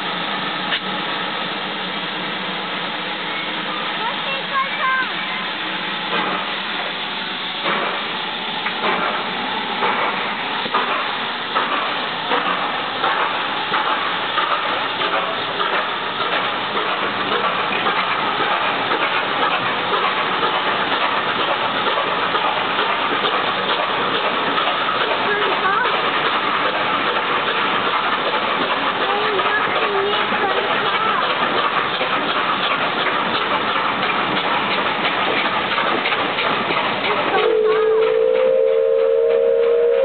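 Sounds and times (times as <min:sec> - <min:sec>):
locomotive exhaust beats: 0:00.0 - 0:40.0
steam hissing: 0:00.0 - 0:40.0
coaches rolling on track: 0:02.2 - 0:40.0.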